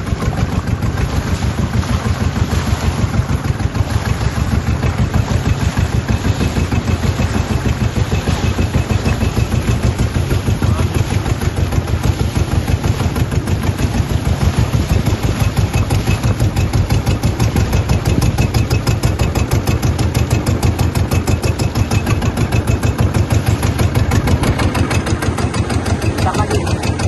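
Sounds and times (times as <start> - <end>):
small engine chugging: 0.0 - 27.0.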